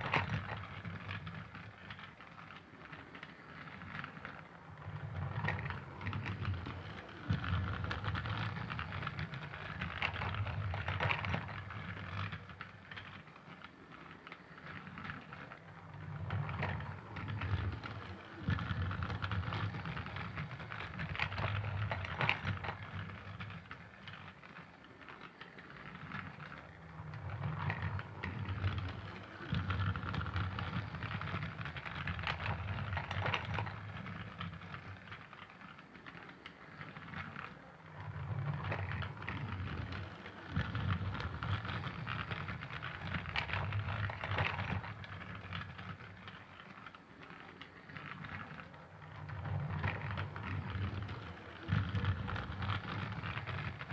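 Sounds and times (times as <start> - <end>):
toy train rattling: 0.0 - 53.9.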